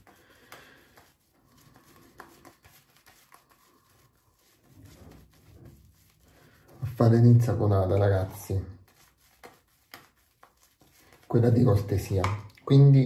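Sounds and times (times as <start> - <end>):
shaving brush swishing on skin: 0.0 - 13.0.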